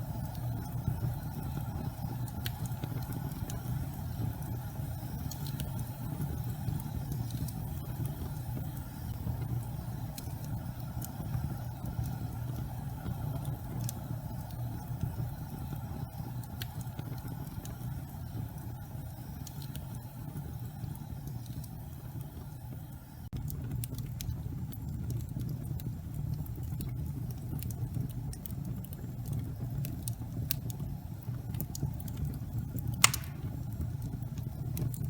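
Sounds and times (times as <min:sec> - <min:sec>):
faint crackles: 0:00.0 - 0:35.0
gas flames rumbling: 0:00.0 - 0:35.0.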